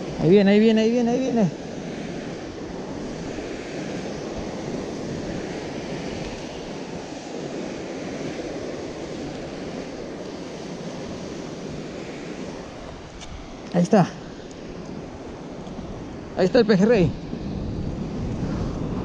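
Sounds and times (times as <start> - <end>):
ocean surf breaking over rocks: 0.0 - 19.0
wind on microphone: 0.0 - 19.0.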